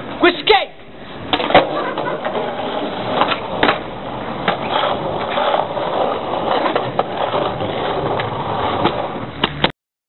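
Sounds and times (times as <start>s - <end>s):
skateboard wheels rolling on pavement: 0.0s - 9.7s
skateboard clacks: 1.2s - 9.7s.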